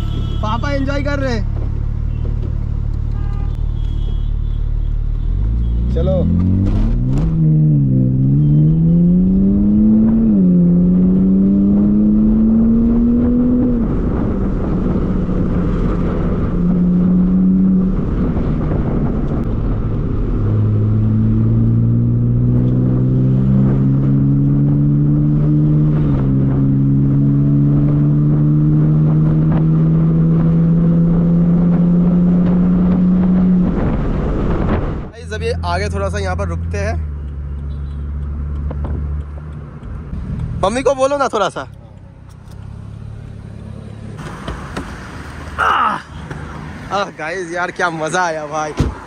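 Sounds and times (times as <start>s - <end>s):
wind and road noise: 0.0s - 49.0s
car engine accelerating: 5.4s - 45.5s.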